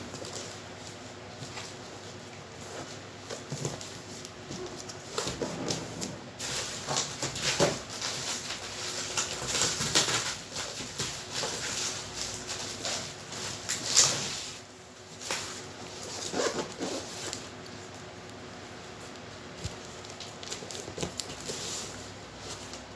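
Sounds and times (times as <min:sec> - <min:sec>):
packaging rustling and scraping: 0:00.0 - 0:22.9.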